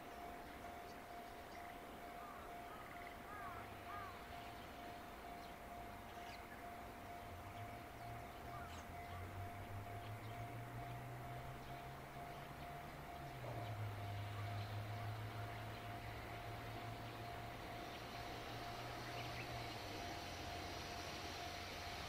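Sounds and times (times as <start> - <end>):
distant train hum: 0.0 - 22.0
thin steady high tone: 0.0 - 22.0
birds calling: 0.1 - 22.0.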